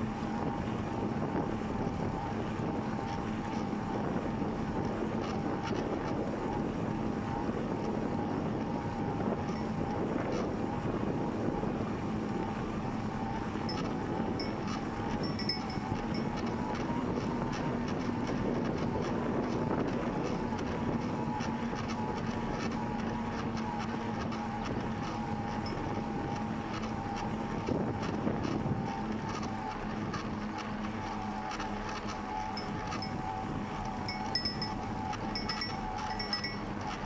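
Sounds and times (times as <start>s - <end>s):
wind noise on microphone: 0.0s - 37.0s.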